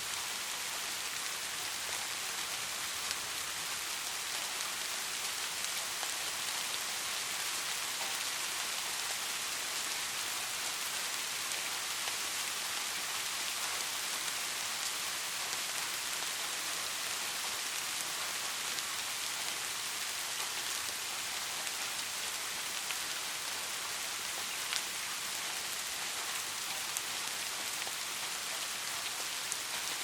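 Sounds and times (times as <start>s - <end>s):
soft rain falling: 0.0s - 30.0s.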